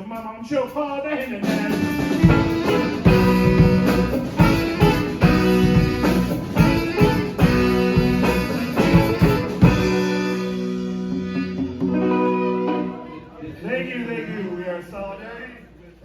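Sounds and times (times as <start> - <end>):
live band with drums and guitar: 0.0 - 13.4.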